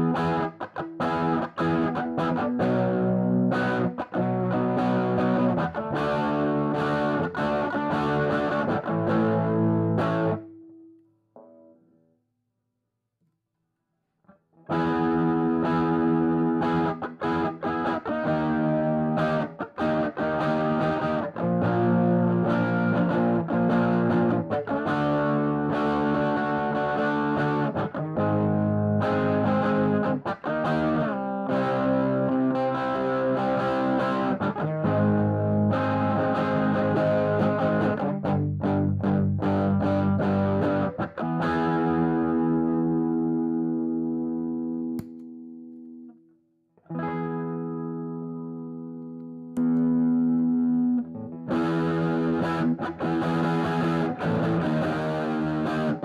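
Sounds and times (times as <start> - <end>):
distorted electric guitar: 0.0 - 11.8, 14.6 - 46.0, 46.9 - 56.0.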